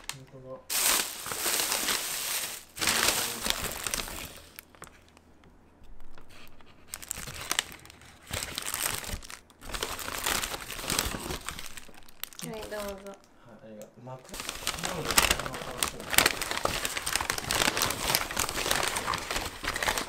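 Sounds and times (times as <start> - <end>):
paper bag rustling: 0.7 - 4.6, 6.1 - 13.1, 14.3 - 20.0.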